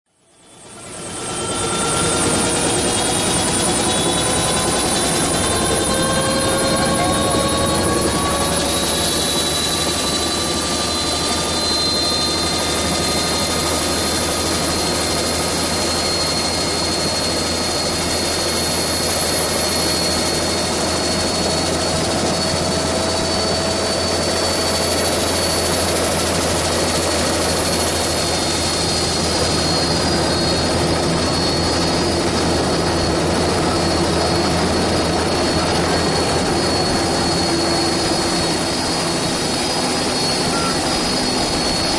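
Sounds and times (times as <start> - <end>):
helicopter engine and rotor: 0.1 - 41.9.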